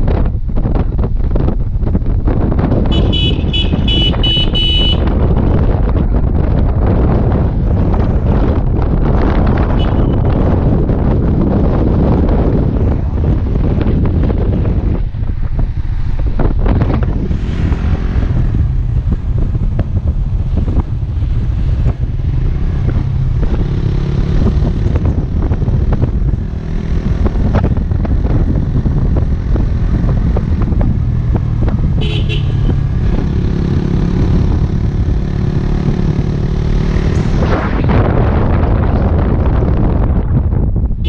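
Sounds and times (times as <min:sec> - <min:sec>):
motorcycle engine running: 0:00.0 - 0:41.0
road rumble: 0:00.0 - 0:41.0
wind buffeting on microphone: 0:00.0 - 0:41.0.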